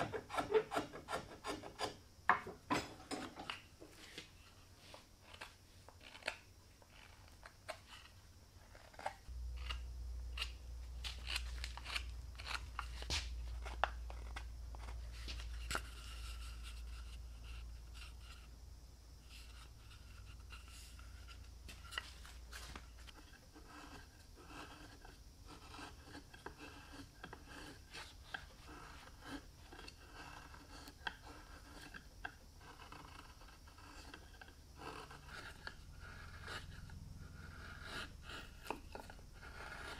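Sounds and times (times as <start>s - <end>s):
knife carving wood: 0.0s - 3.6s, 4.4s - 18.6s, 19.2s - 22.0s, 22.6s - 39.9s
low steady hum: 0.0s - 39.9s.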